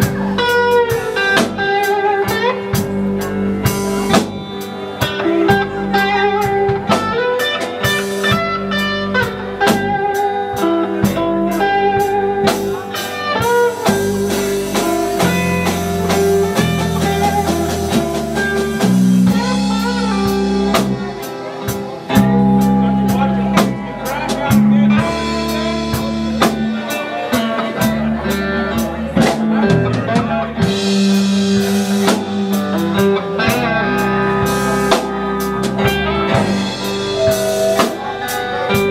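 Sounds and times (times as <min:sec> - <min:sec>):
bass guitar: 0:00.0 - 0:38.9
drum kit steady beat: 0:00.0 - 0:38.9
electric guitar lead lines: 0:00.0 - 0:38.9.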